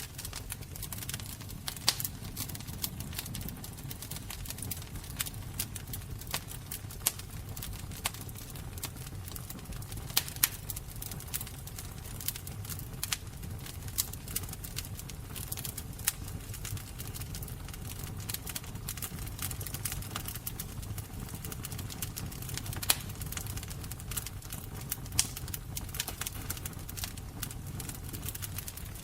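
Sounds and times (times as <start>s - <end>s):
fire crackling and popping: 0.0s - 29.0s
low rumble of burning: 0.0s - 29.0s.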